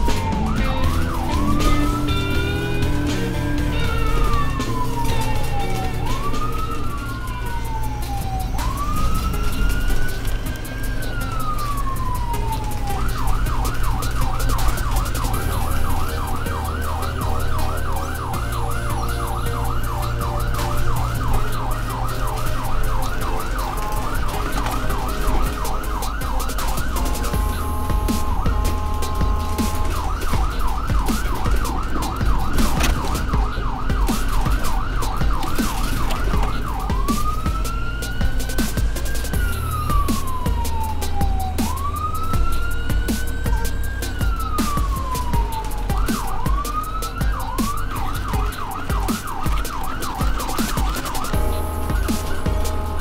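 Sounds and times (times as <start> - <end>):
ambulance siren wail and yelp: 0.0 - 53.0.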